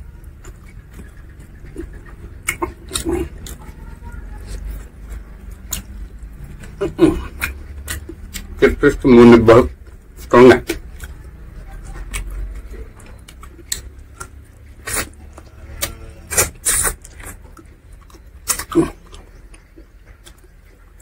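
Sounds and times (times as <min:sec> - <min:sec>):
wet chewing: 0:00.0 - 0:21.0
lip smacks and clicks: 0:00.2 - 0:03.8, 0:04.5 - 0:08.6, 0:09.8 - 0:21.0.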